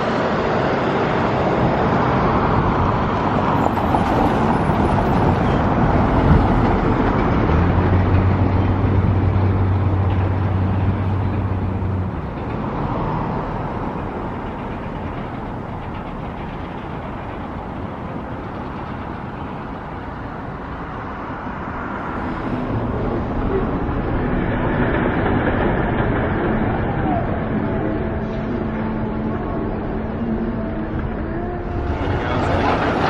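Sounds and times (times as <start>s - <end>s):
low engine hum: 0.0s - 33.0s
passing traffic rushing: 0.0s - 33.0s.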